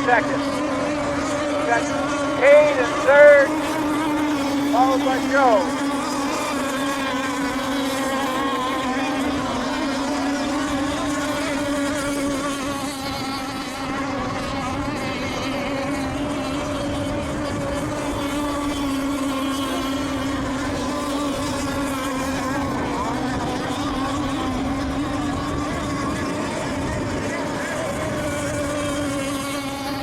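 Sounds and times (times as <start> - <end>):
model boat engines buzzing: 0.0 - 30.0.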